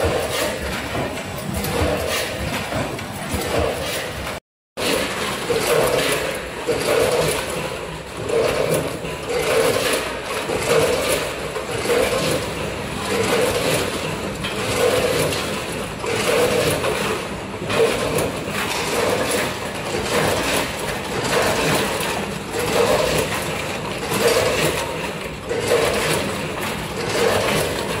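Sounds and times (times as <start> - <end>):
chips rattling through metal buckets: 0.0 - 28.0.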